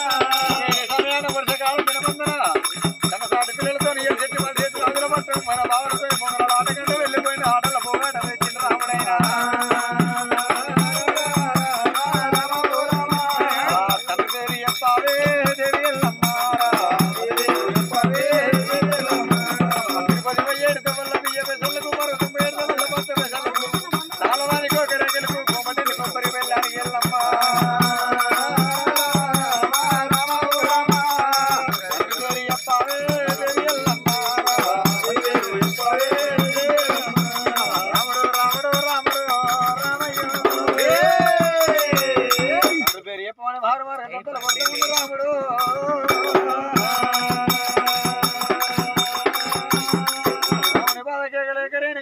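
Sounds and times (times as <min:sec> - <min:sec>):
hand drum beat: 0:00.0 - 0:43.0, 0:44.4 - 0:51.0
jingling rattle: 0:00.0 - 0:43.0, 0:44.4 - 0:51.0
man singing: 0:00.0 - 0:52.0.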